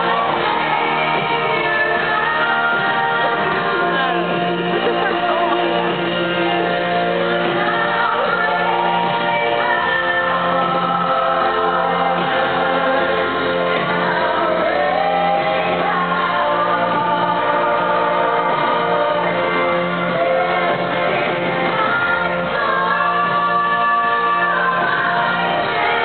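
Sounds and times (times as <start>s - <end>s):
band playing: 0.0s - 26.0s.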